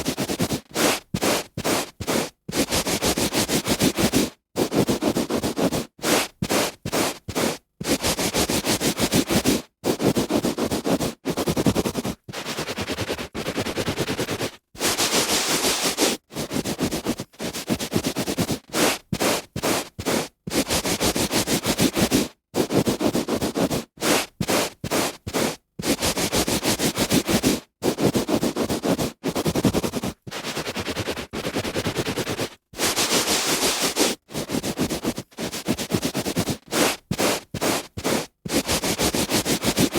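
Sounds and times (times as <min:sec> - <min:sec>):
hand rubbing on carpet: 0:00.0 - 0:39.9.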